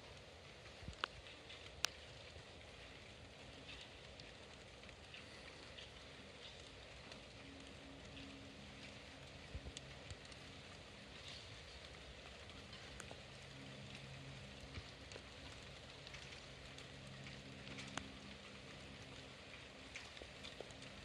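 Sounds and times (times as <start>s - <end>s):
faint low hum: 0.0s - 21.0s
rain falling: 0.0s - 21.0s
raindrops ticking: 0.0s - 21.0s.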